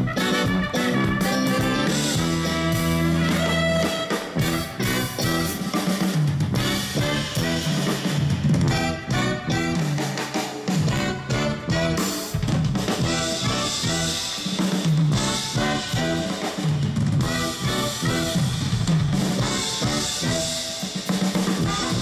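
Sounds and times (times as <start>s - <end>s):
drum kit with cymbals: 0.0s - 22.0s
live band playing dance music: 0.0s - 22.0s
saxophones: 0.0s - 22.0s.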